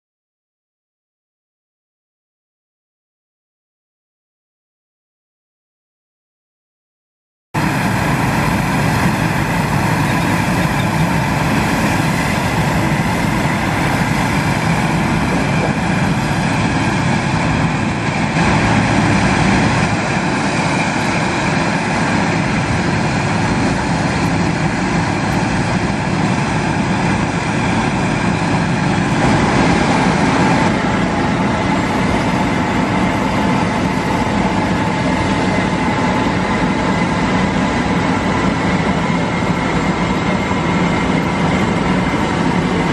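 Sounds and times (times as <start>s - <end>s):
constant high whine: 7.6s - 42.9s
low rumble of aircraft: 7.6s - 42.9s.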